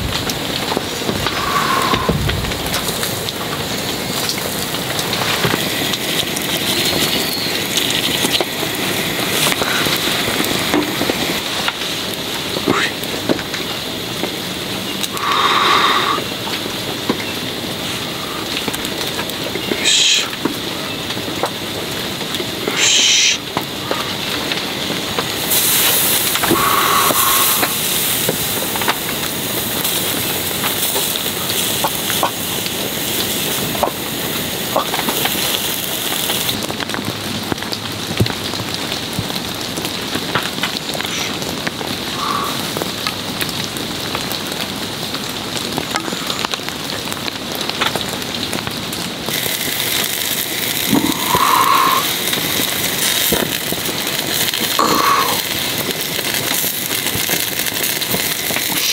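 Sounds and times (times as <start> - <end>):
rain hissing: 0.0 - 58.9
skewers sizzling on a grill: 0.0 - 58.9.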